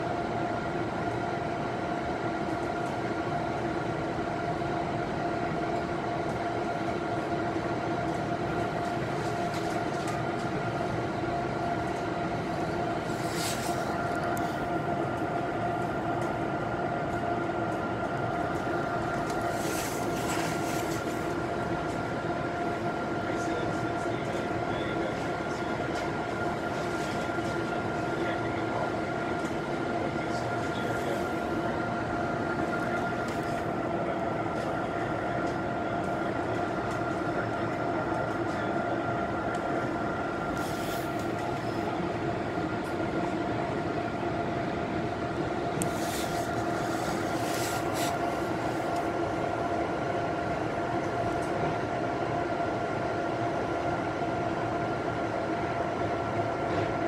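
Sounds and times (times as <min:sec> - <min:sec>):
constant hum: 0:00.0 - 0:57.0.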